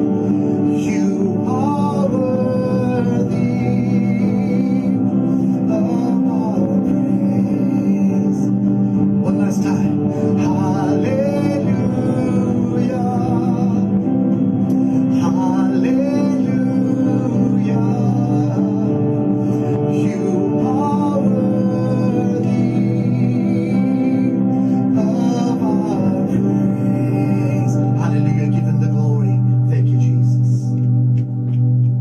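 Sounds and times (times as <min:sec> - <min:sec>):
person singing: 0:00.0 - 0:32.0
sustained instrumental chords: 0:00.0 - 0:32.0.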